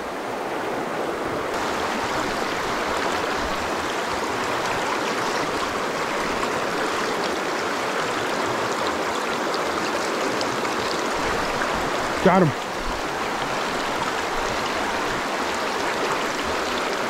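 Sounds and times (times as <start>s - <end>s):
creek water running over rocks: 0.0s - 17.0s.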